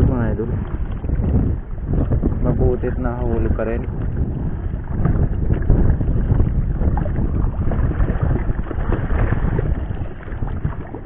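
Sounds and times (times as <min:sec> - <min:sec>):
water lapping against boat: 0:00.0 - 0:11.0
wind buffeting microphone: 0:00.0 - 0:11.0.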